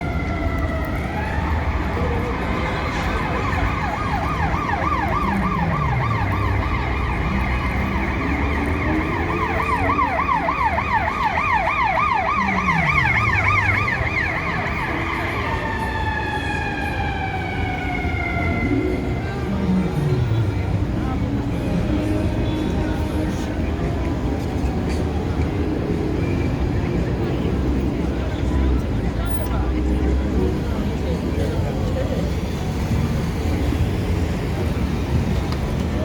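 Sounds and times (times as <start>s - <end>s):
emergency vehicle siren: 0.0s - 36.0s
low traffic rumble: 0.0s - 36.0s.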